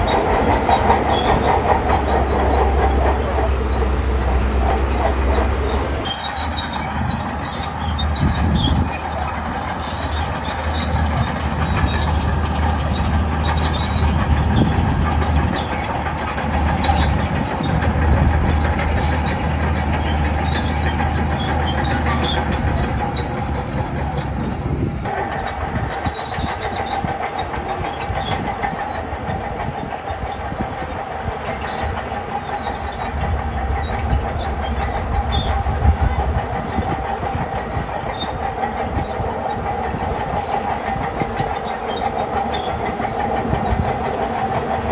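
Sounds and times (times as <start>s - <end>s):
bulldozer diesel engine under load: 0.0s - 44.9s
steel tracks clanking and squealing: 0.0s - 44.9s.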